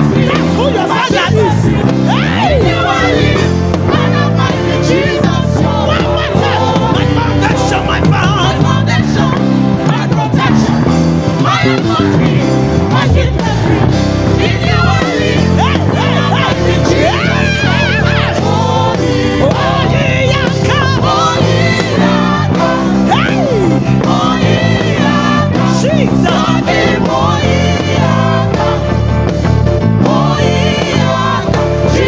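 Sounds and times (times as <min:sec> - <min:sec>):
electric bass: 0:00.0 - 0:32.0
gospel band playing: 0:00.0 - 0:32.0
people singing: 0:00.0 - 0:32.0.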